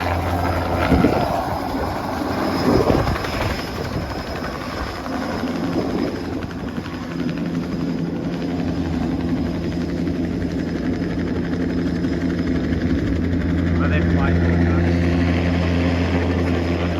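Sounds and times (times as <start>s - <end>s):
helicopter rotor noise: 0.0s - 16.9s
steady engine hum: 0.0s - 16.9s.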